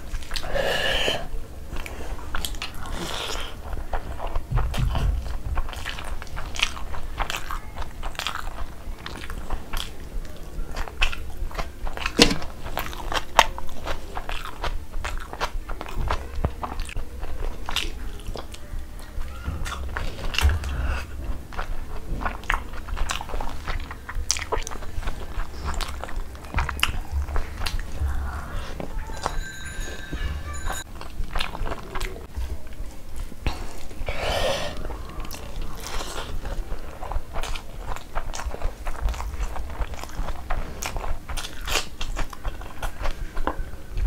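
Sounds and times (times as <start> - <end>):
person chewing food: 0.0 - 44.0
low steady rumble: 1.3 - 44.0.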